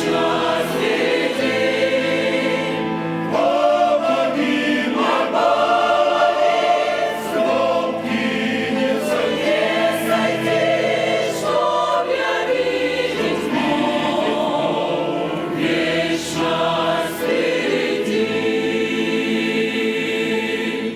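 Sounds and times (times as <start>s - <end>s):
choir singing a hymn: 0.0s - 20.9s.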